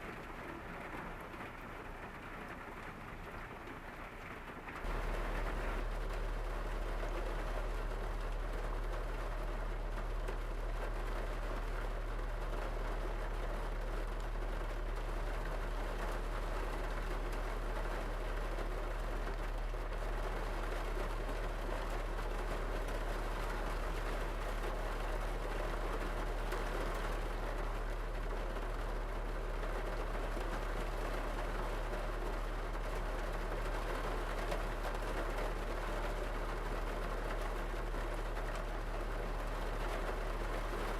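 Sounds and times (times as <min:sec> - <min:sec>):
rain on car roof: 0:00.0 - 0:40.9.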